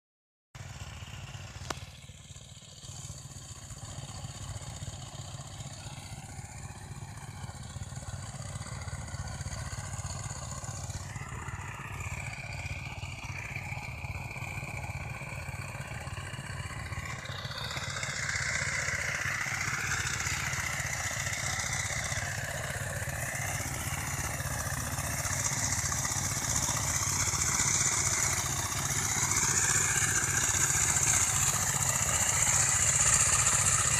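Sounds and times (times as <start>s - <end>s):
tractor engine running: 0.6s - 33.9s.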